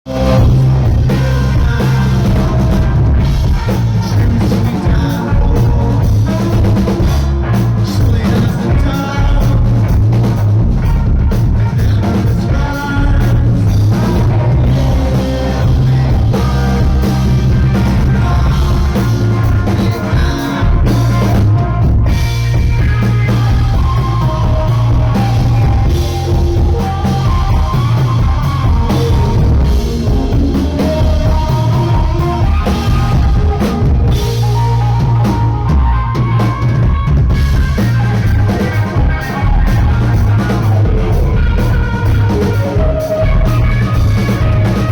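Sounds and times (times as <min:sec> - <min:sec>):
drum kit: 0:00.0 - 0:44.9
electric guitars: 0:00.0 - 0:44.9
heavy bass: 0:00.0 - 0:44.9.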